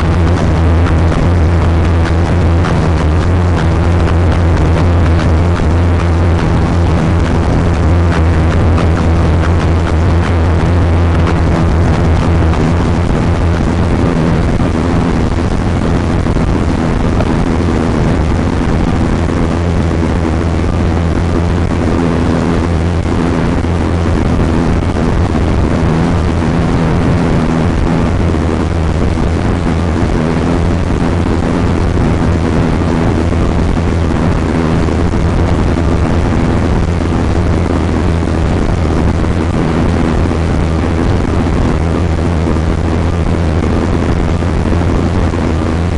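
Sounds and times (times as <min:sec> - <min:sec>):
vehicle engine droning: 0:00.0 - 0:45.9.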